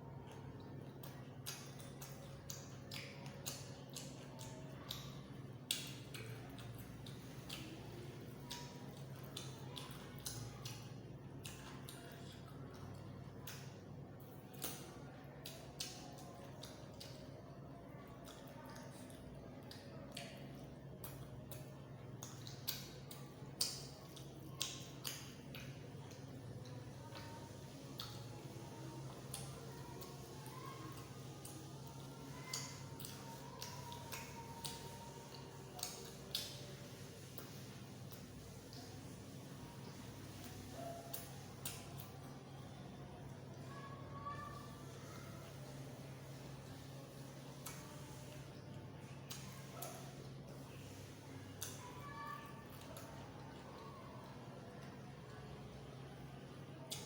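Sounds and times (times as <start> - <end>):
wet mouth chewing smacks: 0.3 - 17.3, 18.1 - 28.3, 29.1 - 39.1, 39.9 - 42.4, 44.8 - 51.9.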